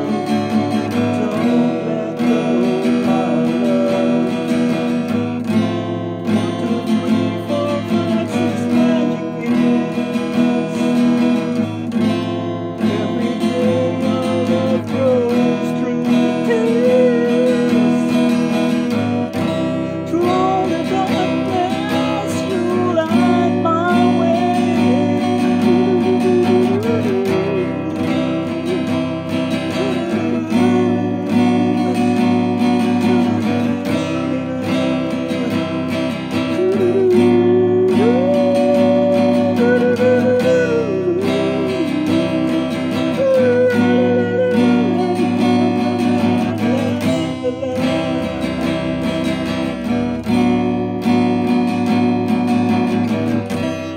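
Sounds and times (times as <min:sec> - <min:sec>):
acoustic guitar strumming: 0:00.0 - 0:53.9
man singing: 0:00.0 - 0:53.9.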